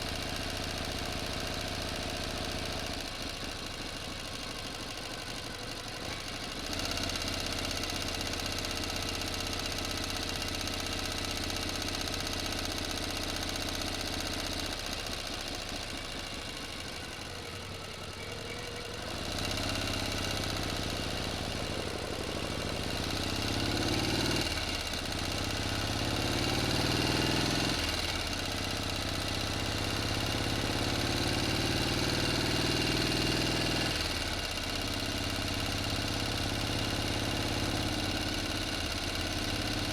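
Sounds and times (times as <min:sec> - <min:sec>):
engine running and revving: 0:00.0 - 0:39.9.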